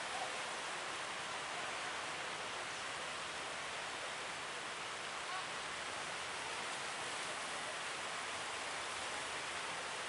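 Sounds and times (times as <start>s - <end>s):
sea surf and waves rushing: 0.0s - 10.0s.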